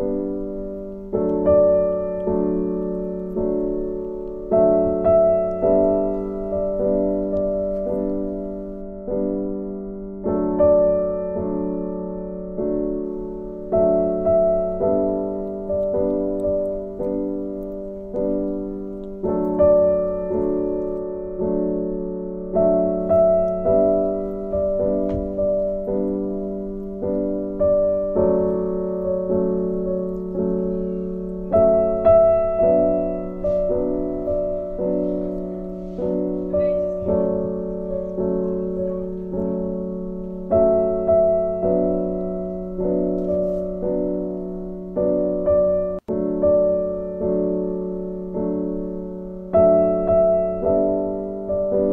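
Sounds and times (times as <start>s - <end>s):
gentle piano melody: 0.0s - 51.9s.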